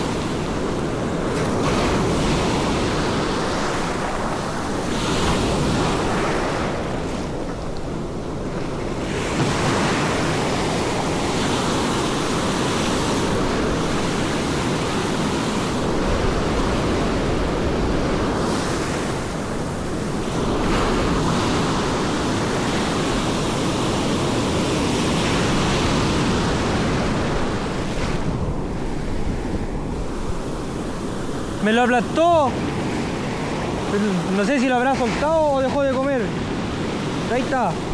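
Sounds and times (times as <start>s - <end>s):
ocean surf breaking: 0.0s - 37.9s
wind buffeting microphone: 0.0s - 37.9s.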